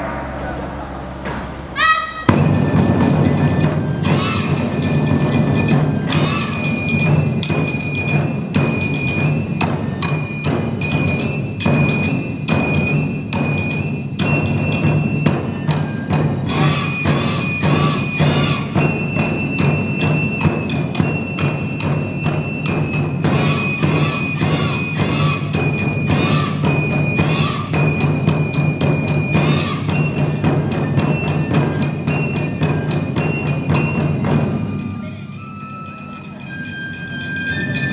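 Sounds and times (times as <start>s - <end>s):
drums struck with sticks: 0.0s - 35.0s.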